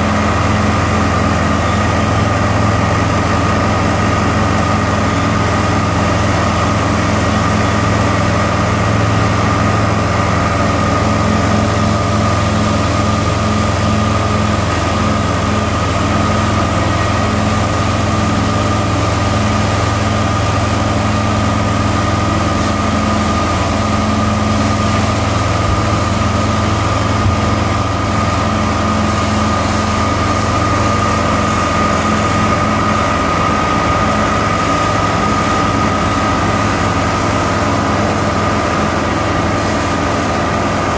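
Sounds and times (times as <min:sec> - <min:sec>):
machine engine drone: 0:00.0 - 0:40.9.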